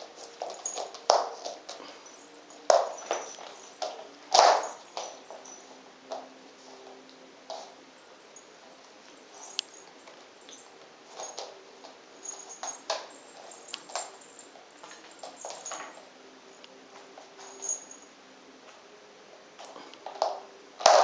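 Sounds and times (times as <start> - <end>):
small bells jingling: 0.0 - 6.9, 8.3 - 18.9, 19.6 - 21.0.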